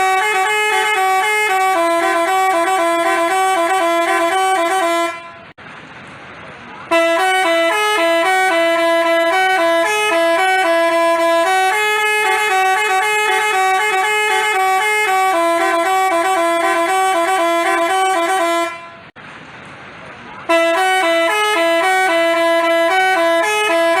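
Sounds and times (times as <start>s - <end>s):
bus horn melody: 0.0s - 5.6s, 6.8s - 19.2s, 20.4s - 24.0s.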